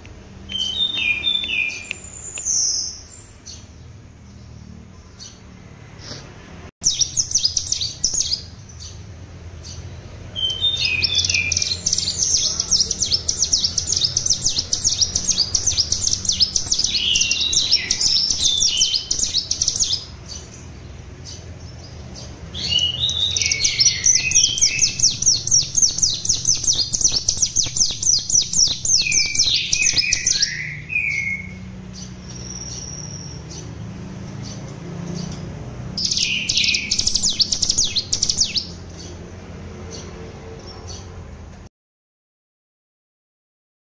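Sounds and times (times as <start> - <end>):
bird singing rapid trills: 0.4 - 5.8, 6.8 - 39.3.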